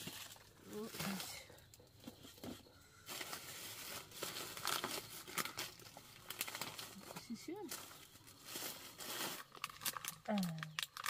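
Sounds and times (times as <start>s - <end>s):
crinkling and rustling: 0.0s - 11.0s.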